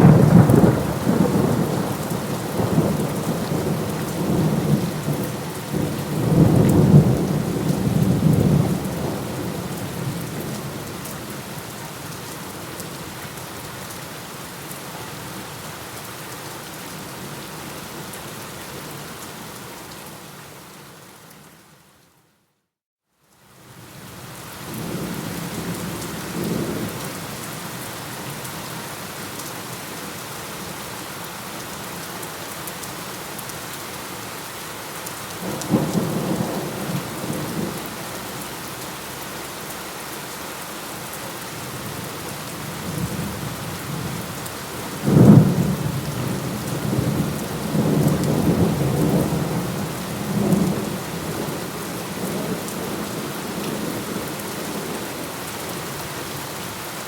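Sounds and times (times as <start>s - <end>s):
heavy rain: 0.0s - 22.0s, 23.4s - 57.0s.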